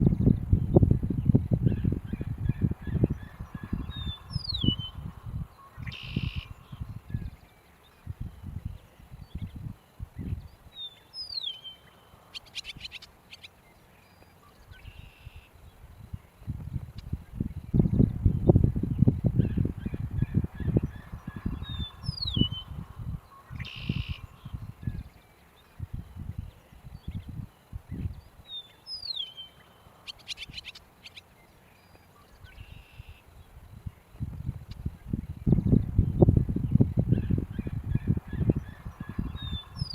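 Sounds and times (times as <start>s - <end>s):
meadowlark singing: 0.0s - 39.9s.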